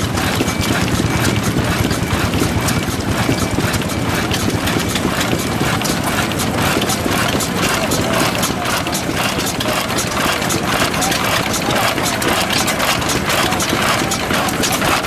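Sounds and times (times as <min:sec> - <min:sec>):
oil engine running: 0:00.0 - 0:15.0.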